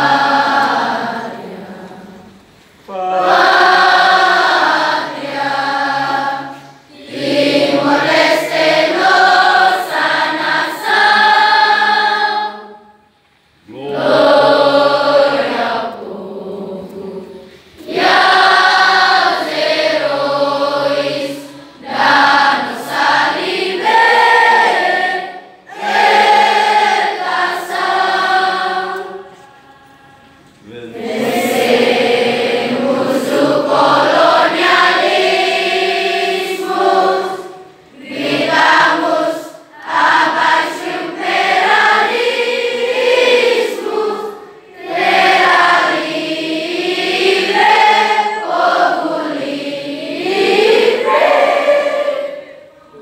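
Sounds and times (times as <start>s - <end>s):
students singing in unison: 0.0s - 53.0s.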